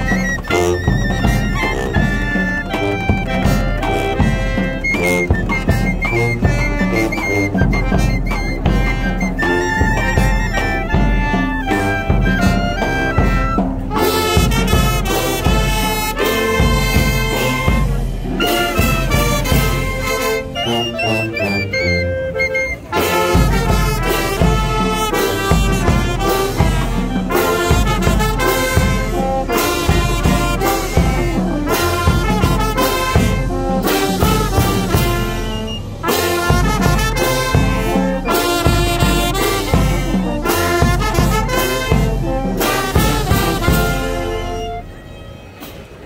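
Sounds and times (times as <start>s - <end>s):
brass band playing a march: 0.0s - 46.0s.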